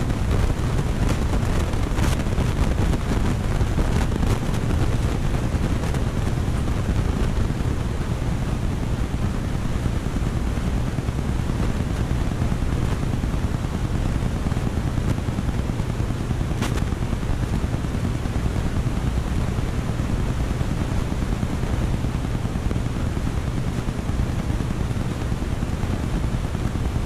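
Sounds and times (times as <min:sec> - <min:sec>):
aquarium filter humming and hissing: 0:00.0 - 0:27.0.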